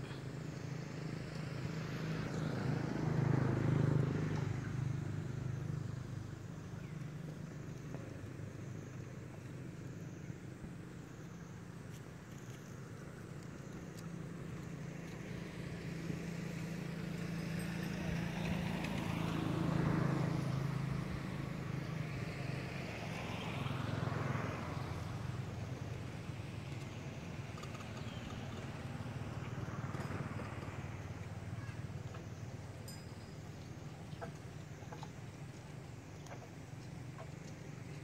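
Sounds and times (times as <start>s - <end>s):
vehicles driving past: 0.0s - 38.0s.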